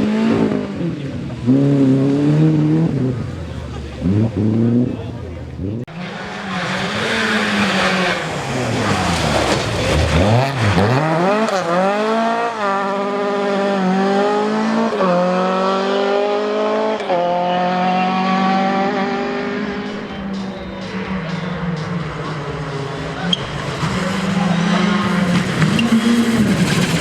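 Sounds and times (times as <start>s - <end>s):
rally car engine revving: 0.0s - 27.0s
tyres rushing: 1.3s - 13.9s, 16.4s - 27.0s.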